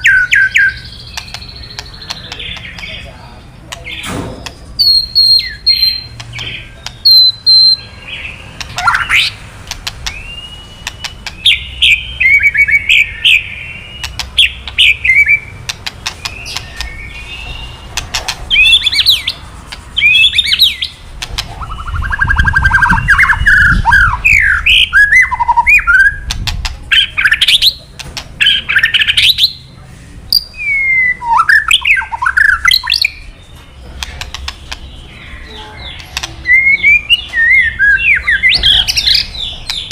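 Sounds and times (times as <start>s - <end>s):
bird calling in harsh bursts: 0.0s - 29.7s, 34.2s - 39.9s.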